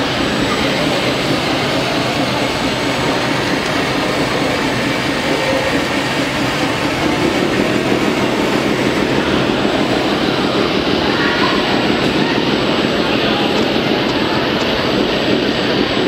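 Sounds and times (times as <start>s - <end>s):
hydraulic pump running: 0.0s - 16.0s.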